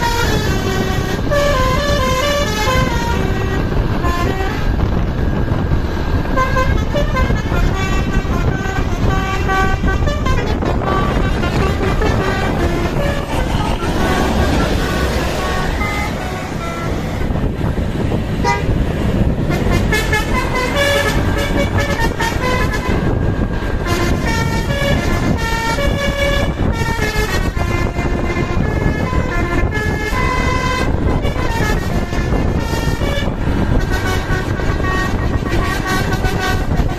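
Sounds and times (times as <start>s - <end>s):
bus engine rumble: 0.0s - 36.9s
musical bus horn melody: 0.0s - 36.9s.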